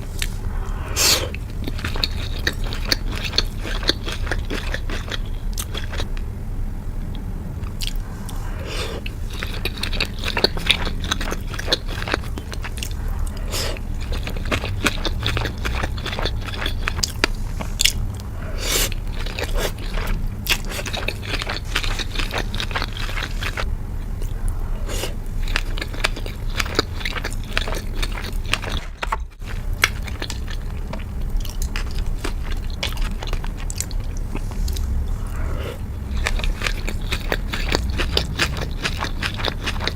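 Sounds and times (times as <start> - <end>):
person chewing food closely: 0.0 - 6.3, 7.6 - 39.9
steady low hum: 0.0 - 39.9.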